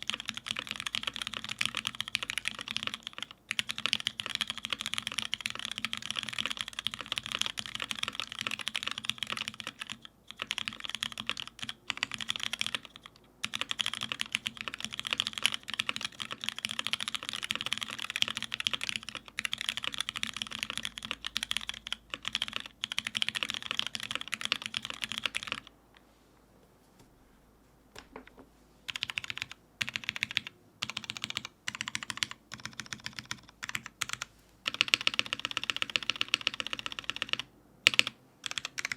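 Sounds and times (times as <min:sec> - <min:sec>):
mechanical keyboard typing: 0:00.0 - 0:25.7, 0:28.2 - 0:38.9.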